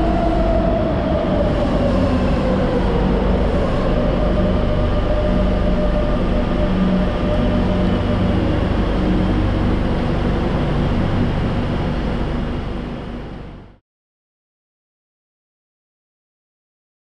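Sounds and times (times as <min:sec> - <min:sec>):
train rolling rumble: 0:00.0 - 0:13.8.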